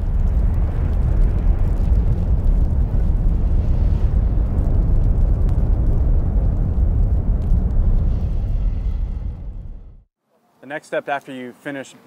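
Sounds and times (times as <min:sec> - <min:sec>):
loud deep rumble: 0:00.0 - 0:10.1.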